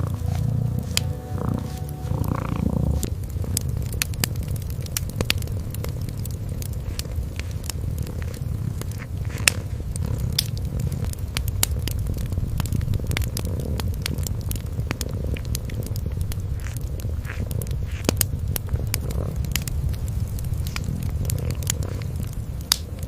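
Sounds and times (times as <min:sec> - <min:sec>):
kitten purring: 0:00.0 - 0:23.0
wood fire crackling and popping: 0:00.0 - 0:23.0.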